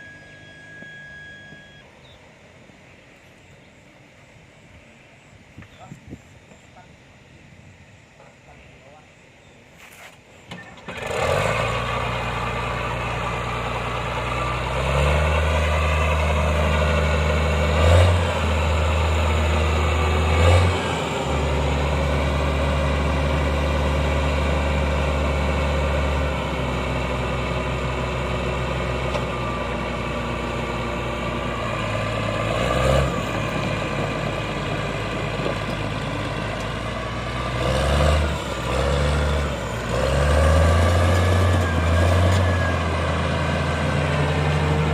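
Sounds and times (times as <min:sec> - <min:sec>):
bulldozer diesel engine: 0:00.0 - 0:44.9.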